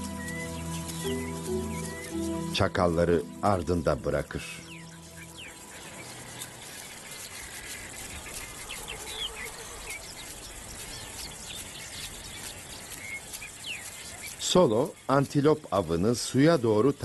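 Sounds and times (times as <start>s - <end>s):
high bird chirps: 0.0s - 15.1s
insect hum: 0.0s - 17.0s.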